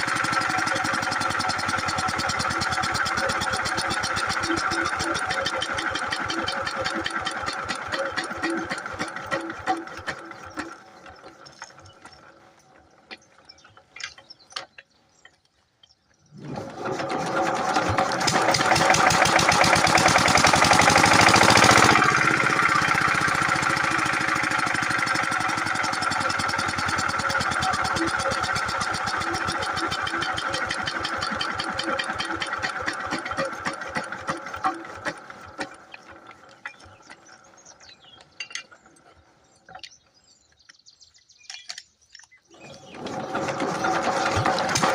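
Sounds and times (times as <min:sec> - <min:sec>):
diesel engine chugging: 0:00.0 - 0:13.7, 0:16.6 - 0:40.0, 0:42.6 - 0:44.9.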